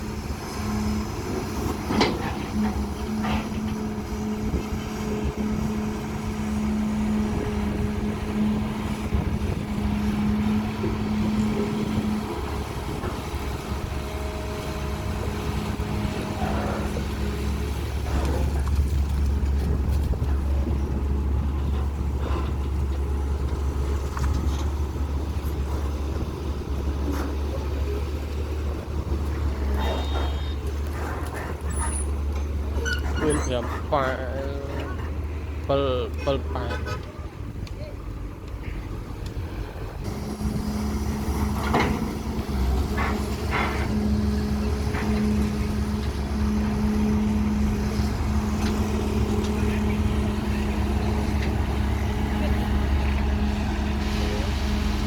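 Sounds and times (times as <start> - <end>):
excavator diesel engine drone: 0.0 - 55.0.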